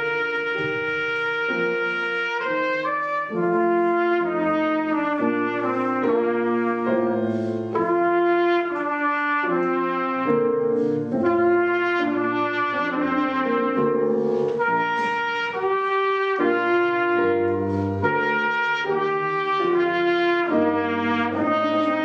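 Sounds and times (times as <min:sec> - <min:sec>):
grand piano accompaniment: 0:00.0 - 0:22.0
trumpet playing slow melody: 0:00.0 - 0:22.0.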